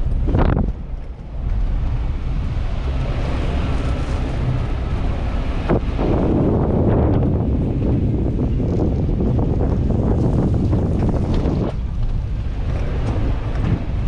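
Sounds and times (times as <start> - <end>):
car engine driving off-road: 0.0 - 14.0
wind buffeting microphone: 0.0 - 14.0.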